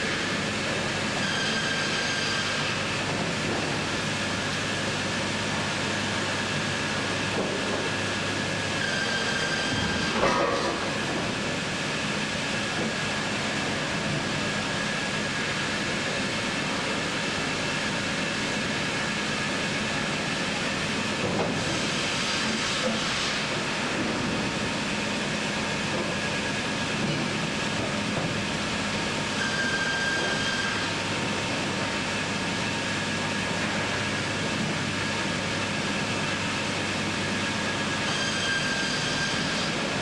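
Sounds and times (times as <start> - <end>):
sawmill machinery running: 0.0 - 40.0.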